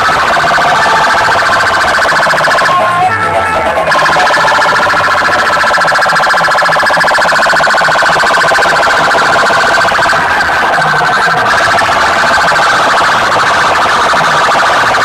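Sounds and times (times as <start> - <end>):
warbling electronic alarm tone: 0.0 - 15.0.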